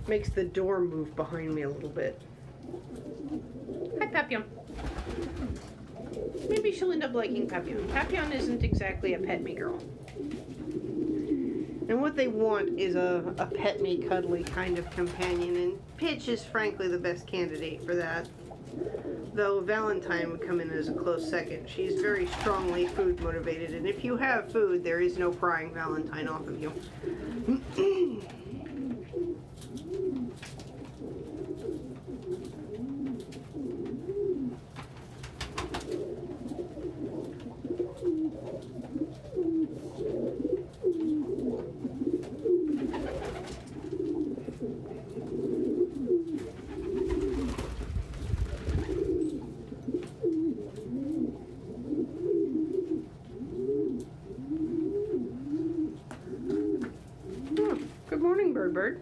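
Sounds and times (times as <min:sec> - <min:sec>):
pigeons cooing: 0:00.0 - 0:58.1.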